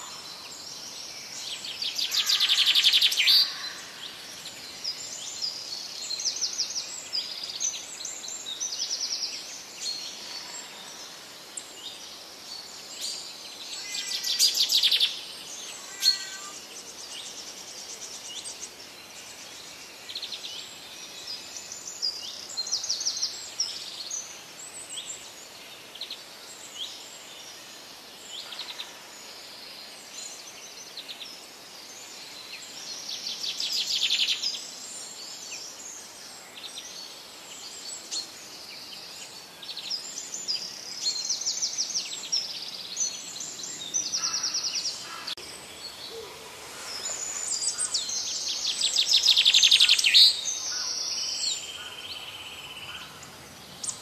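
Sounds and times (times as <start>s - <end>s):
faint steady hiss: 0.0s - 54.0s
small birds chirping and trilling: 0.0s - 54.0s.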